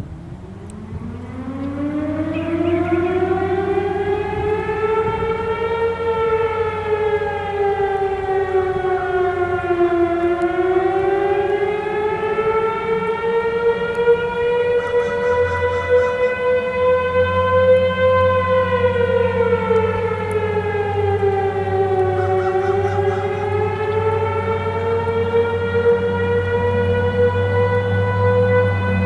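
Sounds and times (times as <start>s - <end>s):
mechanical siren wailing: 0.0s - 29.0s
steady siren alert tone: 0.0s - 29.0s.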